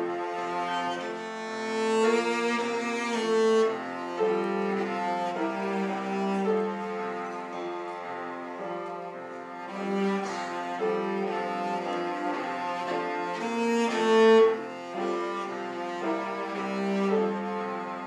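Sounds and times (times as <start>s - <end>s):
bowed cello melody: 0.0s - 18.0s.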